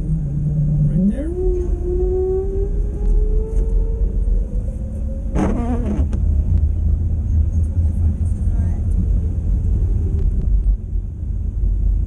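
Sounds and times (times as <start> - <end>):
car engine accelerating: 0.0 - 12.0
low road rumble: 0.0 - 12.0.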